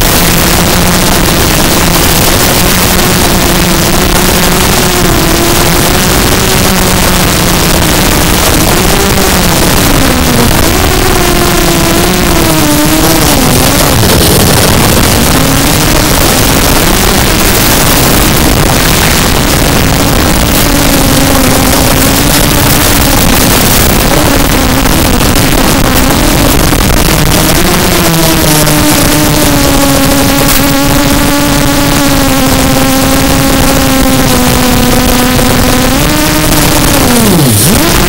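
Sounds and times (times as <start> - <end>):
drone propellers buzzing: 0.0 - 38.0
loud steady hiss: 0.0 - 38.0.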